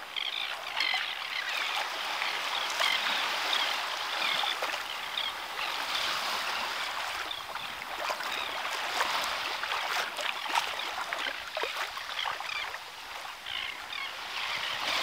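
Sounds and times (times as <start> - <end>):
seawater lapping at beach: 0.0 - 15.0.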